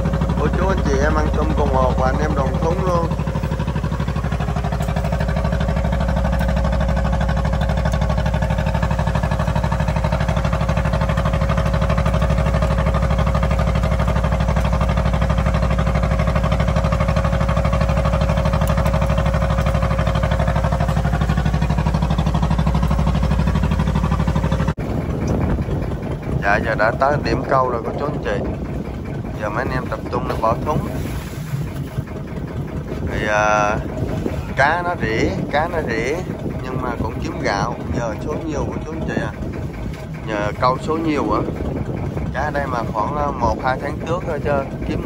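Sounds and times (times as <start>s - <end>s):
boat engine drone: 0.0s - 45.0s.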